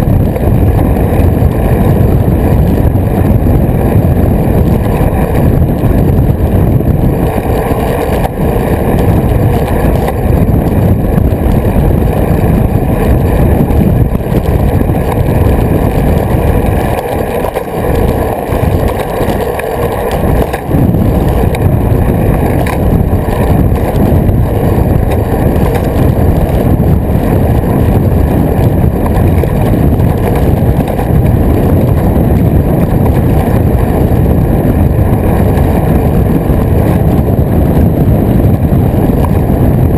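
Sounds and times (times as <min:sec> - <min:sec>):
tyre noise on asphalt: 0:00.0 - 0:39.9
wind buffeting microphone: 0:00.0 - 0:39.9.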